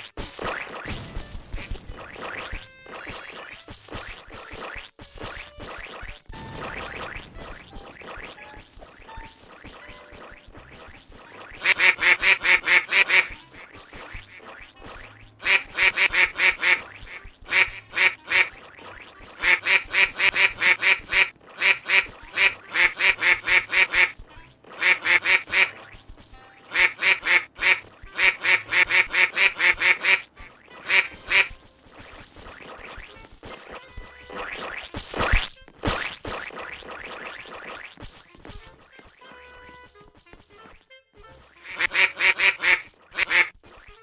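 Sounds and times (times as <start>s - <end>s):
bird calling in harsh runs: 5.4s - 44.0s.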